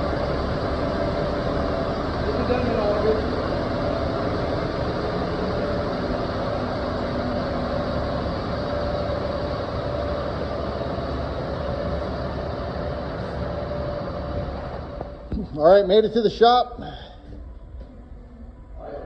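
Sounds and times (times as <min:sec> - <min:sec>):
faint steady hum: 0:00.0 - 0:19.0
vehicle engine running: 0:00.0 - 0:19.0.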